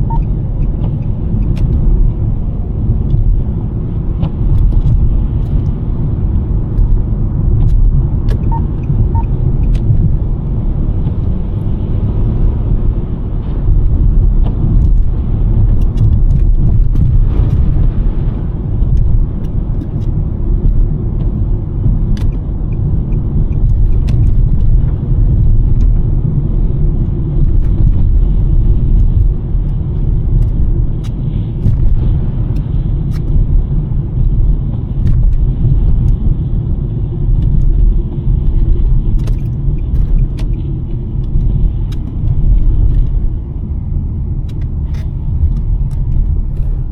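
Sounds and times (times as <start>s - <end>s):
tyres and engine rumble: 0.0s - 46.9s.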